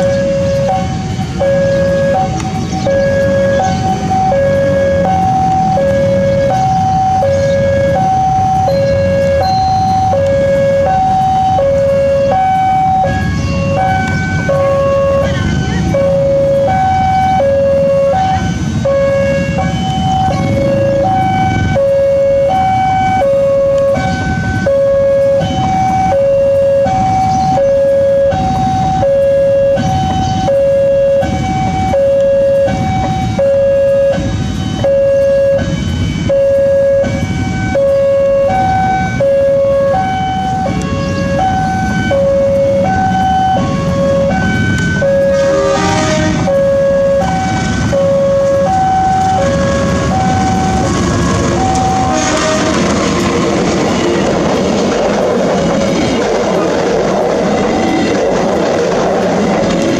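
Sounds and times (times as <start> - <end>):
level crossing two-note alarm: 0.0 - 52.5
diesel locomotive rumble: 0.0 - 59.9.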